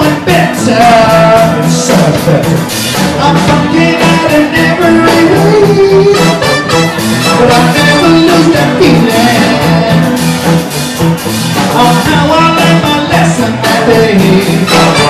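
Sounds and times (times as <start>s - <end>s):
drum kit beat: 0.0s - 15.0s
live band playing amplified music: 0.0s - 15.0s.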